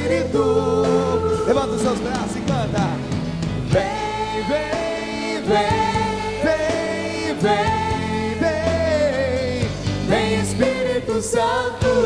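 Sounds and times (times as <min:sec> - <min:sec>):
congregation singing a hymn: 0:00.0 - 0:12.0.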